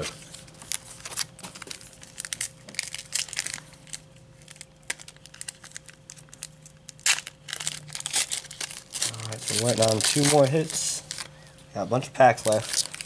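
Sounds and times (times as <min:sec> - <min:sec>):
card wrappers crinkling: 0:00.0 - 0:11.4, 0:12.2 - 0:13.0.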